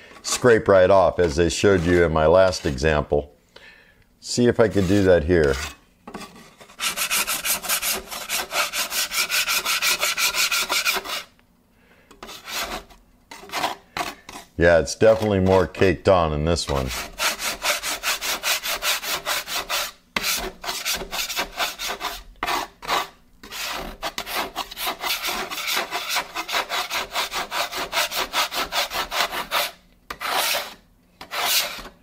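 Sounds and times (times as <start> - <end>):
scraper scraping griddle: 0.0 - 3.2, 4.3 - 11.3, 12.2 - 32.0.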